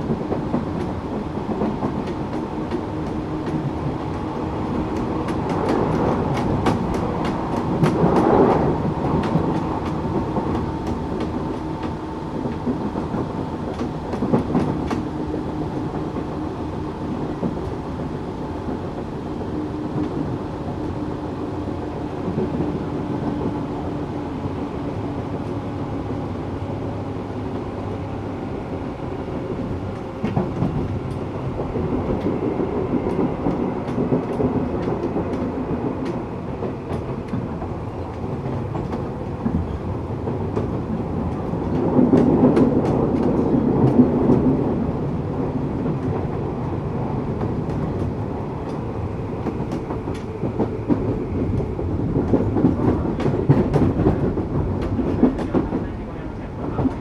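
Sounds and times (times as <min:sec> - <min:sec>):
electric train motor and gear hum: 0:00.0 - 0:57.0
train wheels rolling: 0:00.0 - 0:57.0.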